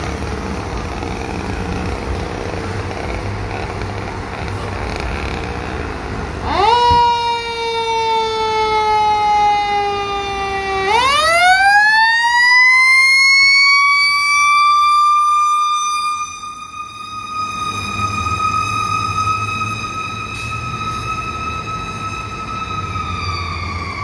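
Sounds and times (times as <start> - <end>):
mechanical siren wailing: 4.3 - 24.0.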